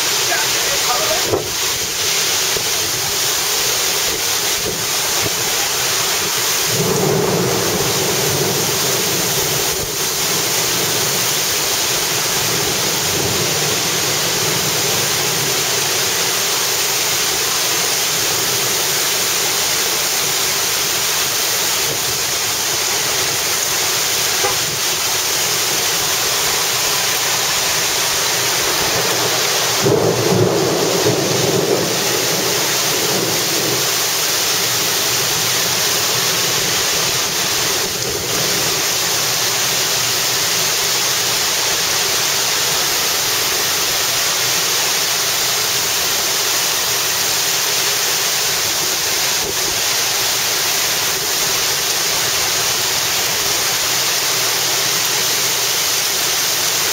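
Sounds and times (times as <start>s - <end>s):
heavy rain and wind rushing: 0.0s - 56.9s.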